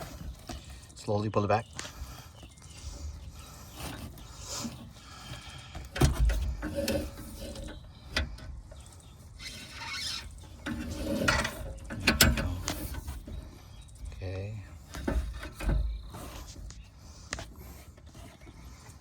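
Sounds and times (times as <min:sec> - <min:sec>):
cable rubbing and scraping: 0:00.0 - 0:08.0, 0:08.6 - 0:14.1, 0:14.7 - 0:19.0.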